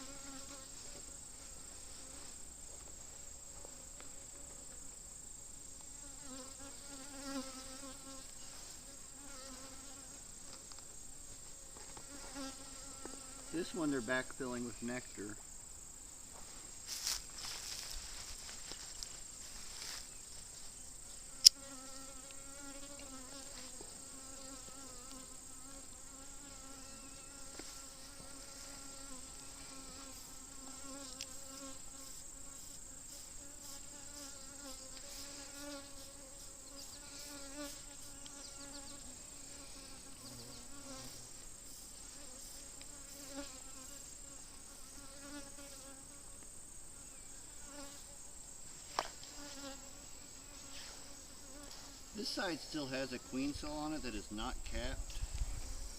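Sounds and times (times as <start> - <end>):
honeybees buzzing: 0.0 - 55.9.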